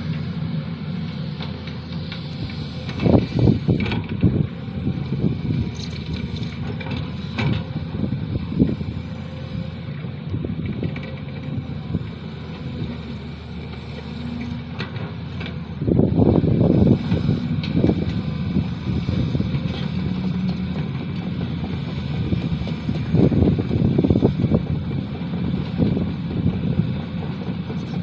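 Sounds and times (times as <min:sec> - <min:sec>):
excavator diesel hum: 0:00.0 - 0:28.0.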